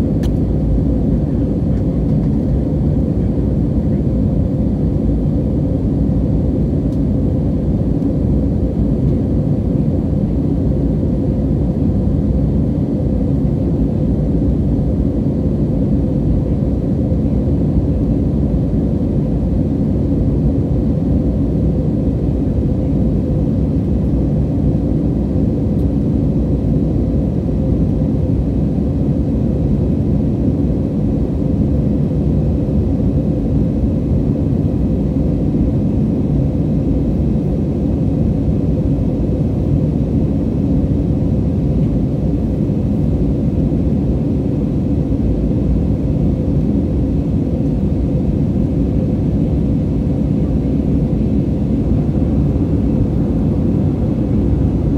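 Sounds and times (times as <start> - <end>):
faint engine hum: 0.0 - 54.9
jet engine and airflow noise: 0.0 - 54.9.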